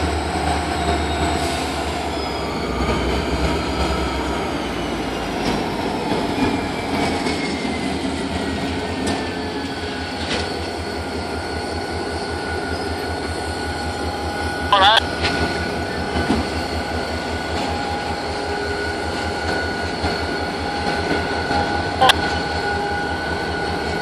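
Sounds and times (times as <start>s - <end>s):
locomotive diesel engines throbbing: 0.0s - 24.0s
rolling train noise: 0.0s - 24.0s.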